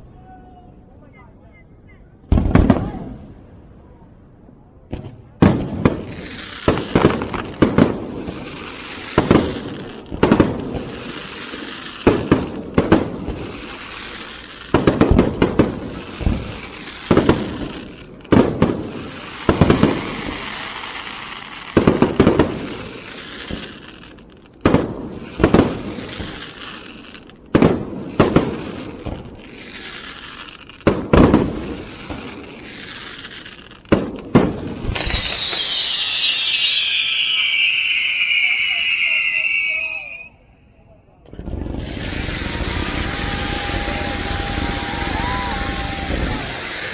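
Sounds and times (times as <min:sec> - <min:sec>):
fireworks booming: 0:02.3 - 0:03.4, 0:04.9 - 0:40.2, 0:41.3 - 0:46.9
fireworks crackling: 0:05.3 - 0:40.5, 0:41.3 - 0:46.9.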